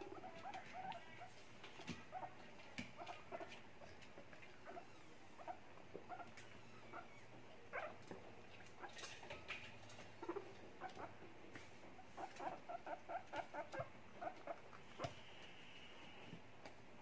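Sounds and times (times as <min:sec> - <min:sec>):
guinea pigs crunching lettuce: 0:00.0 - 0:16.2.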